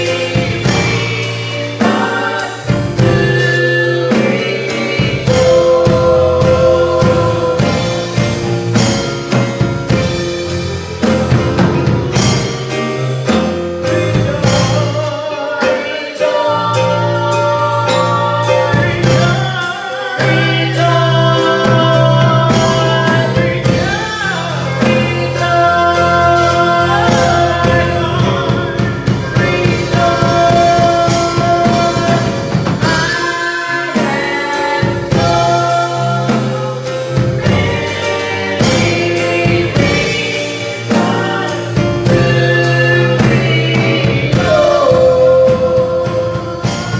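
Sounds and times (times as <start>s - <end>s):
bass: 0.0s - 46.9s
drum kit beat: 0.0s - 46.9s
gospel singing: 0.0s - 46.9s
organ or keyboard: 0.0s - 46.9s.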